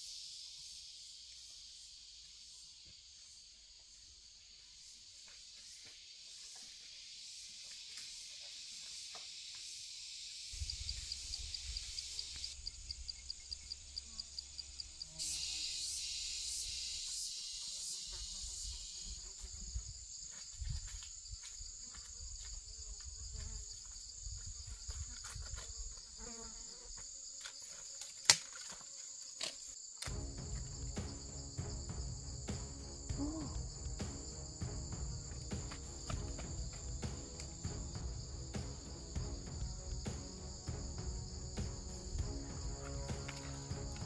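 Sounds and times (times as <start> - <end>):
insects buzzing: 0.0 - 44.0.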